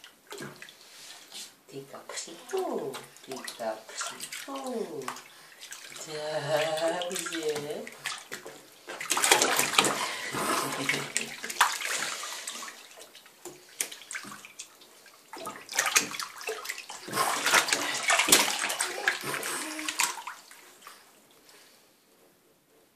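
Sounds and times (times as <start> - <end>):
water splashing in baby bath: 2.0 - 21.0.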